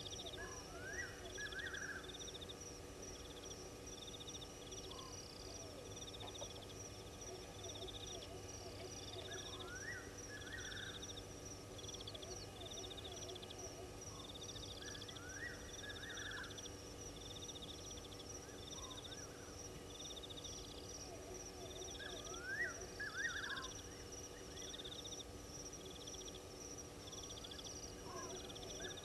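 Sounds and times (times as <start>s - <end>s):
cricket trill: 0.0s - 29.0s
pulsed insect chirp: 0.0s - 29.0s.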